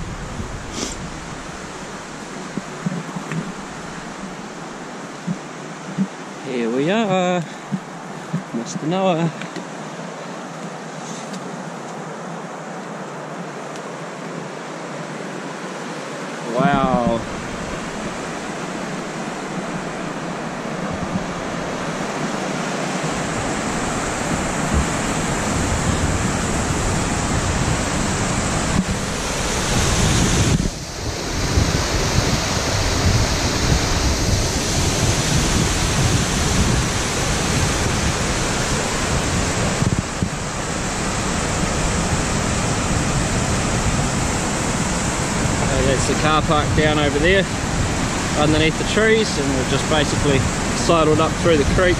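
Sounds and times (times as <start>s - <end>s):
wind buffeting microphone: 0.0s - 6.5s, 16.5s - 51.9s
waterfall rushing over rocks: 0.0s - 51.9s.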